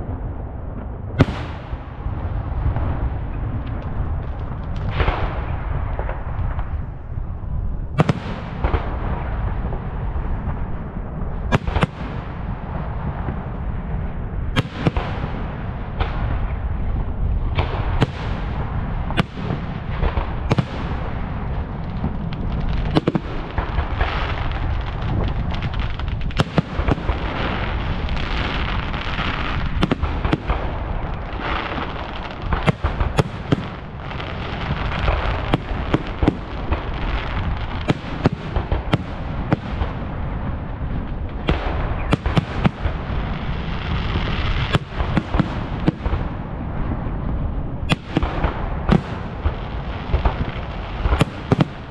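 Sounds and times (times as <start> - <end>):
fireworks bangs: 0.0 - 7.1, 7.7 - 51.9
low rumble: 0.0 - 51.9.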